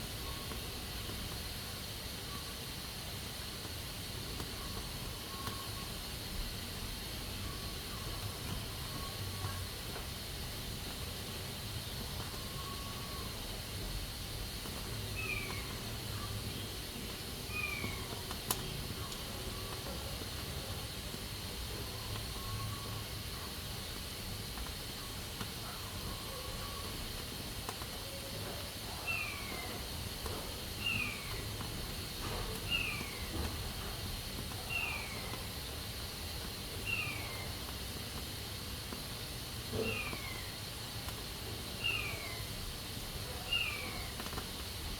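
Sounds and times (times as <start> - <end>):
pressure cooker hissing steam: 0.0 - 44.9.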